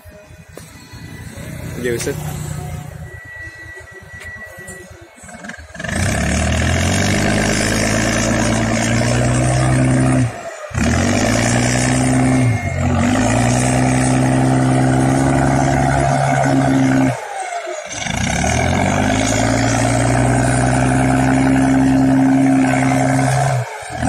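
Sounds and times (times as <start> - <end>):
diesel engine under heavy load: 0.0 - 24.0.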